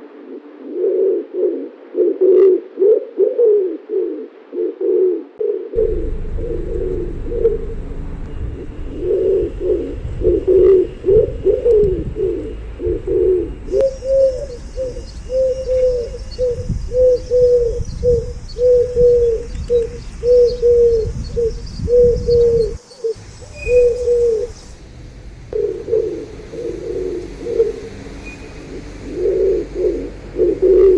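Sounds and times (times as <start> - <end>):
pigeons cooing: 0.0 - 8.1, 8.7 - 24.6, 25.5 - 30.9.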